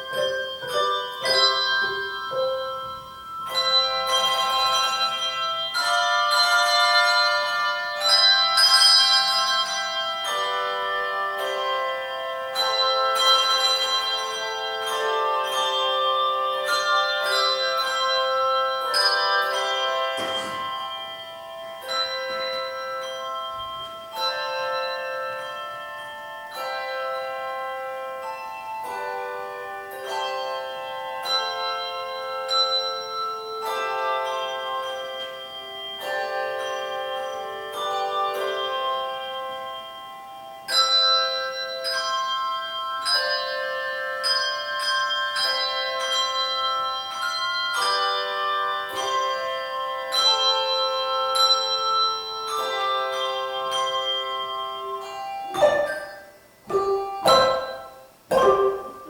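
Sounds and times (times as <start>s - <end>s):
handbells ringing: 0.0s - 59.0s.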